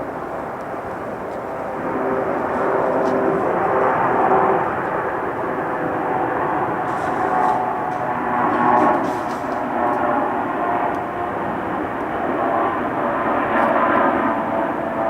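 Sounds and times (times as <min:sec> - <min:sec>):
jet airliner engines rushing: 0:00.0 - 0:15.0.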